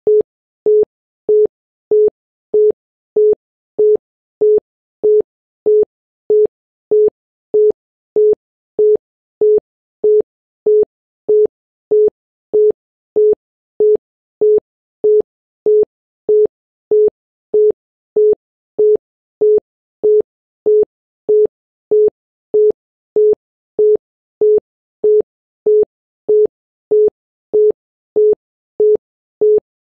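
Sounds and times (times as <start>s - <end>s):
telephone busy tone beeps: 0.1s - 29.6s.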